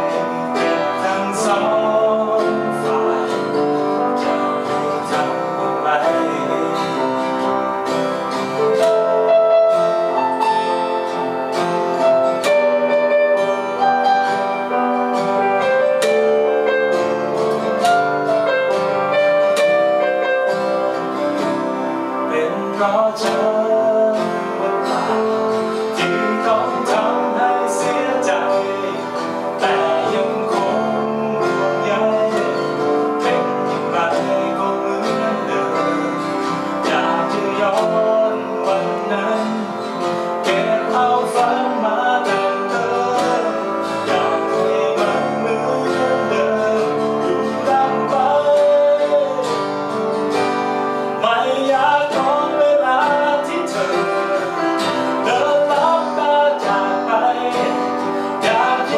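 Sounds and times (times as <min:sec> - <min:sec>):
acoustic guitar strumming: 0:00.0 - 0:58.9
keyboard accompaniment: 0:00.0 - 0:58.9
man singing: 0:00.0 - 0:58.9.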